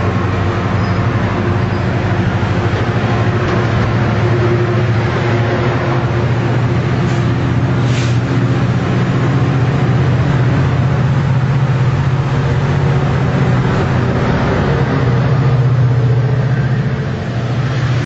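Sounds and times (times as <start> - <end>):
train cars rumbling past: 0.0 - 18.0.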